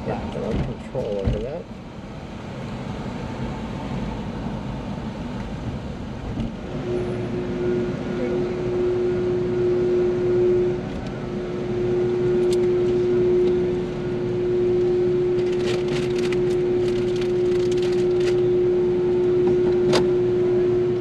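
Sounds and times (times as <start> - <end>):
low rumble: 0.0 - 21.0
machinery drone with humming tone: 0.0 - 21.0.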